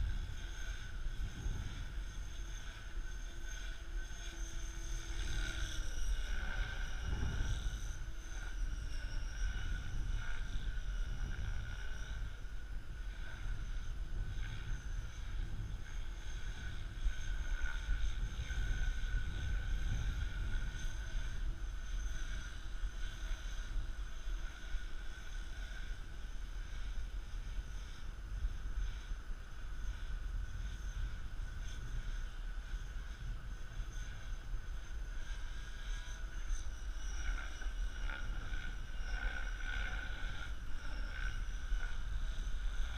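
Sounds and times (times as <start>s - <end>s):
model helicopter whine: 0.0s - 42.9s
wind rumble on microphone: 0.0s - 42.9s.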